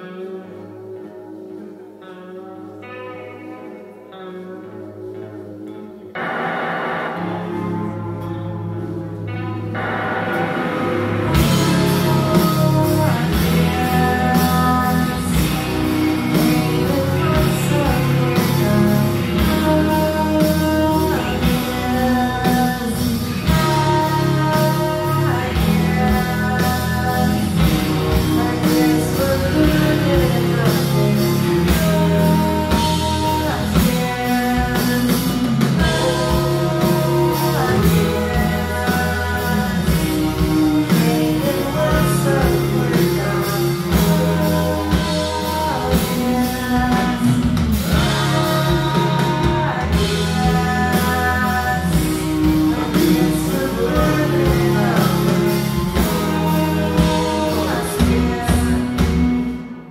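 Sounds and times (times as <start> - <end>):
drums: 0.0 - 59.9
electric guitars: 0.0 - 59.9
person singing: 0.0 - 59.9.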